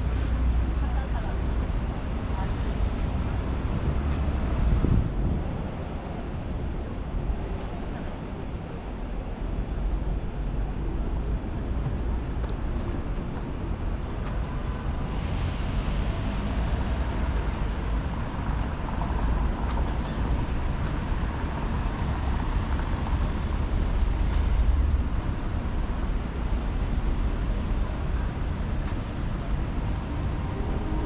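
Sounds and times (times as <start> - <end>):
low rumble of passing cars: 0.0 - 31.0.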